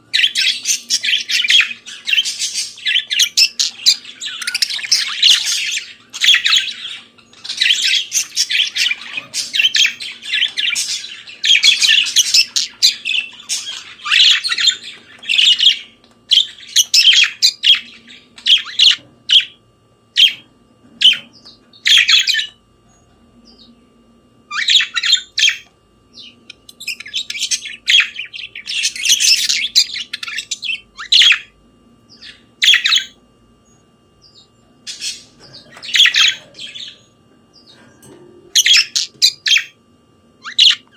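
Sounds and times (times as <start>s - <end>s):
faint steady hum: 0.0s - 40.9s
budgerigars chattering and warbling: 0.1s - 19.6s, 20.2s - 22.6s, 24.5s - 31.5s, 32.1s - 33.2s, 34.2s - 39.8s, 40.4s - 40.9s.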